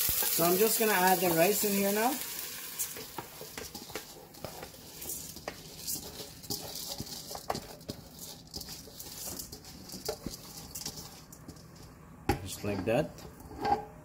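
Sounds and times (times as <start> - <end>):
oil sizzling: 0.0 - 12.6
rice grains pattering: 0.0 - 13.0.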